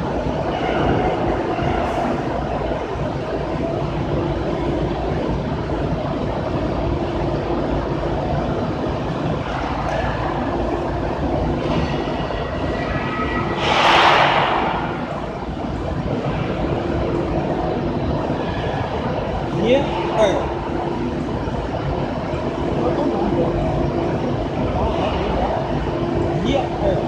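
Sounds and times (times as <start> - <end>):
low mechanical rumble: 0.0 - 27.0.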